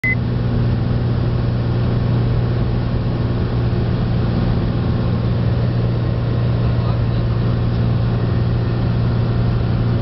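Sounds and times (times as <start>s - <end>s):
aircraft engine droning: 0.0s - 10.0s.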